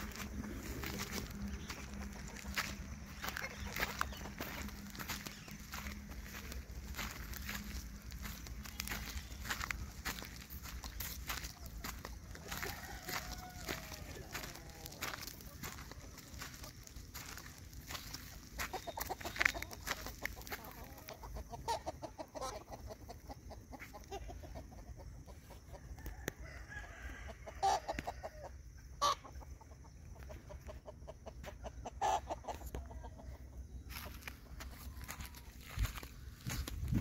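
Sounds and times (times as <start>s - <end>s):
chickens clucking: 0.0s - 37.0s
sharp chicken calls: 0.0s - 37.0s.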